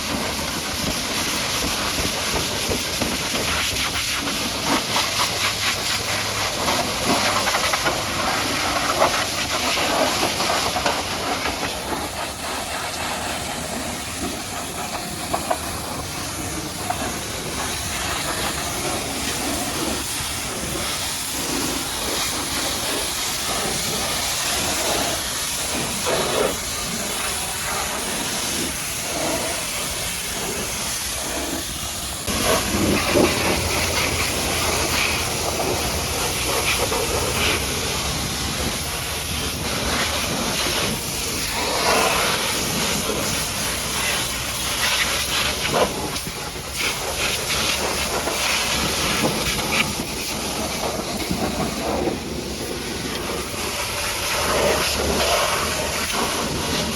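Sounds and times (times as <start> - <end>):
pressure washer spraying water: 0.0 - 56.9.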